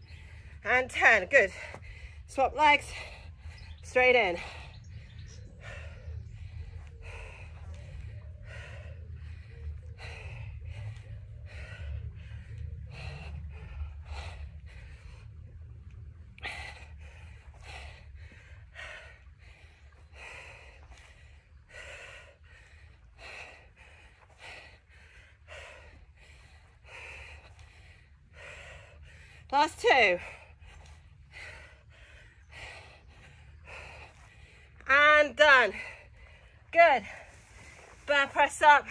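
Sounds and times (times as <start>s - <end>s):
steady low rumble: 0.0s - 38.9s
woman breathing hard: 1.4s - 38.1s.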